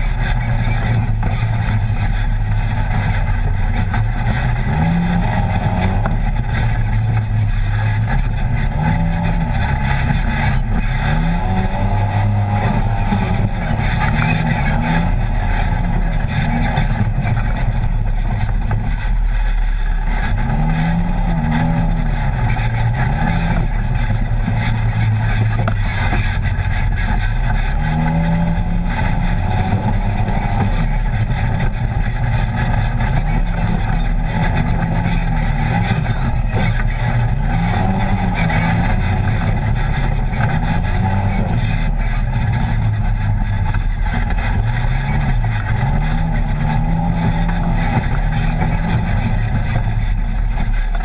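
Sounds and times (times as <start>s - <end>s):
off-road vehicle engine revving: 0.0s - 51.0s
rushing ride noise: 0.0s - 51.0s.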